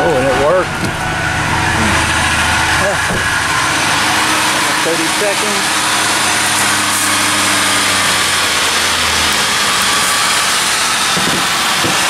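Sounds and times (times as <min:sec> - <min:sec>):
truck engine idling: 0:00.0 - 0:12.0
low hum: 0:00.1 - 0:10.7.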